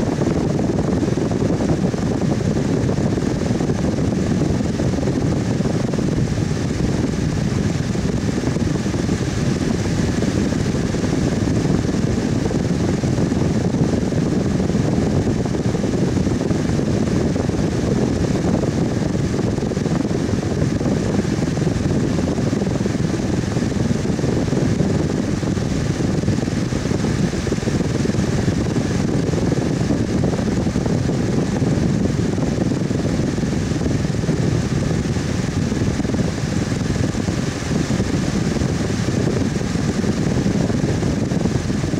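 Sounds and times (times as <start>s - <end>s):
electric fan whooshing: 0.0s - 41.9s
faint motor hum: 0.0s - 41.9s.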